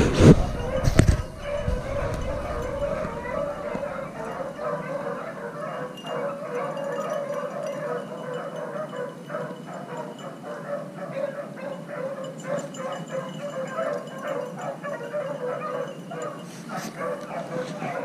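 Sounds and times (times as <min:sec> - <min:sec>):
hounds baying and yelping: 0:00.0 - 0:18.0.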